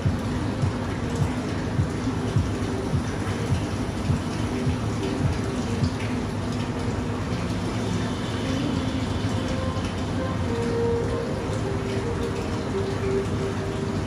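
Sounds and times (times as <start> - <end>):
faint hum: 0.0 - 14.0
water running: 0.0 - 14.0.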